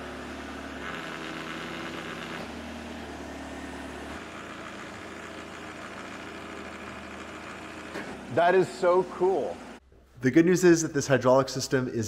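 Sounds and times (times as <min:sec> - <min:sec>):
engine running steadily: 0:00.0 - 0:09.8.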